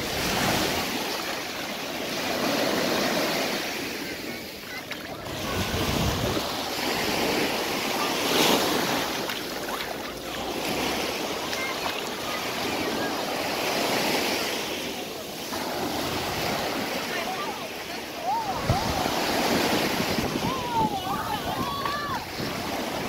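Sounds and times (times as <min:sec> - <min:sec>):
surf breaking on beach: 0:00.0 - 0:23.0.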